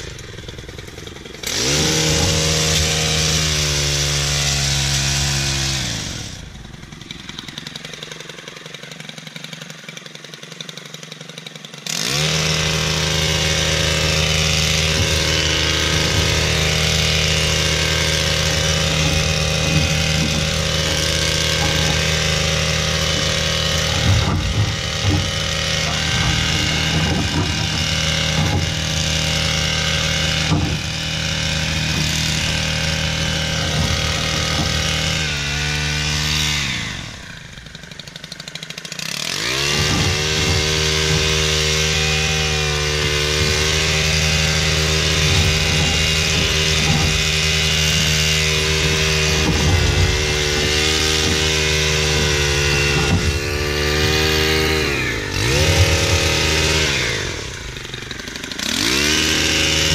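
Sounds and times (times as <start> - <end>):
hedge trimmer engine revving: 0.0 - 59.9.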